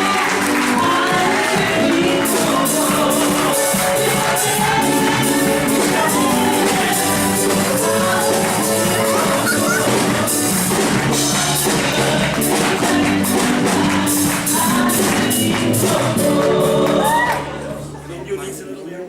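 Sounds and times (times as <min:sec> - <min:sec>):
congregation singing: 0:00.0 - 0:18.1
instrumental backing: 0:00.0 - 0:18.6.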